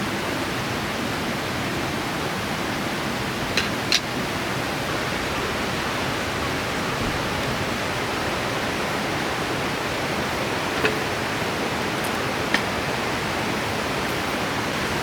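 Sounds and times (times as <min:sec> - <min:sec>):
mountain river rushing: 0:00.0 - 0:15.0.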